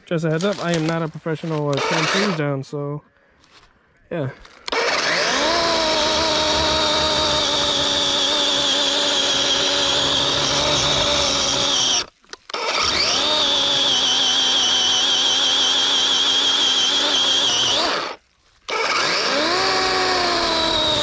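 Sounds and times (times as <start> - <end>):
cordless chainsaw electric whine: 1.8 - 2.4, 4.7 - 21.0.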